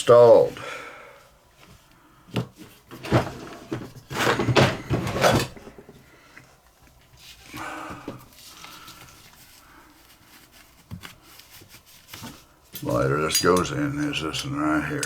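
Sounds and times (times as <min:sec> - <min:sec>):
rustling: 0:01.6 - 0:14.3.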